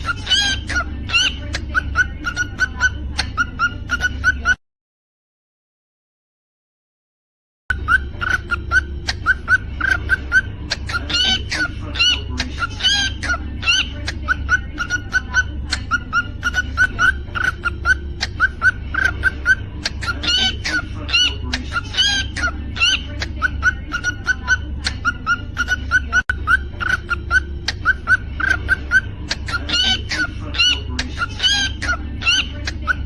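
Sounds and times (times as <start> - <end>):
cockatiel chirping: 0.0 - 4.6, 7.7 - 33.0.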